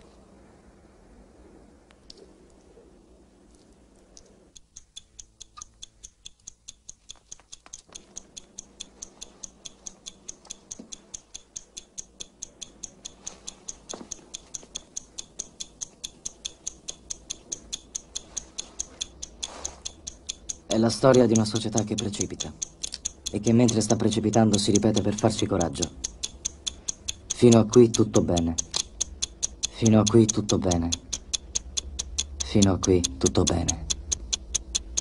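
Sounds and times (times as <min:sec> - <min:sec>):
clock ticking: 0:04.5 - 0:35.0.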